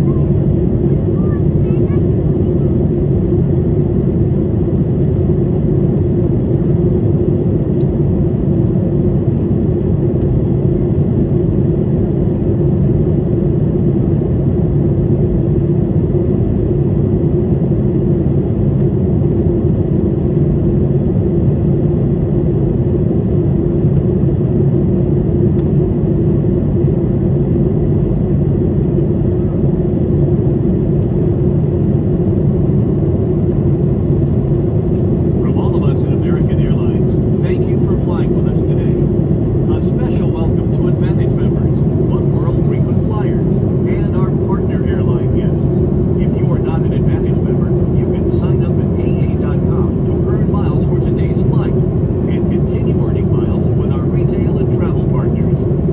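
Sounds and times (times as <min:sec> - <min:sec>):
airplane cabin rumble and hum: 0:00.0 - 0:55.9.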